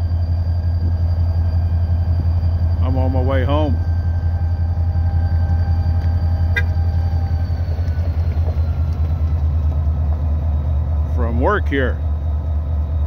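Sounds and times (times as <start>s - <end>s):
diesel locomotive engine rumbling: 0.0s - 13.0s
faint high whine: 0.0s - 13.0s.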